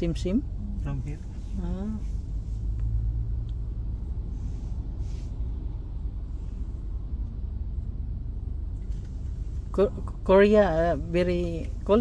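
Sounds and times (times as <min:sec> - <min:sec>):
low rumble inside car cabin: 0:00.0 - 0:12.0.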